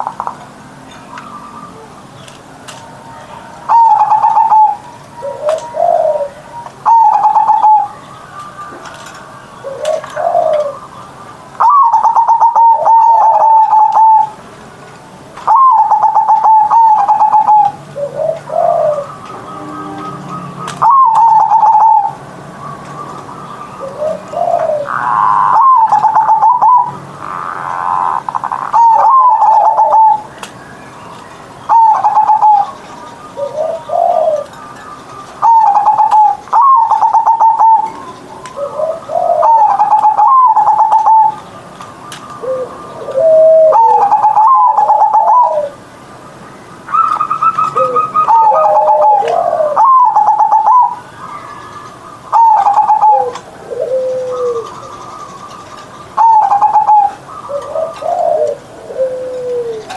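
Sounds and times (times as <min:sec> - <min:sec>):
dove cooing: 0:02.7 - 0:10.9, 0:11.6 - 0:14.4, 0:15.4 - 0:30.4, 0:31.7 - 0:34.6, 0:35.3 - 0:41.4, 0:42.1 - 0:45.8, 0:46.9 - 0:59.9.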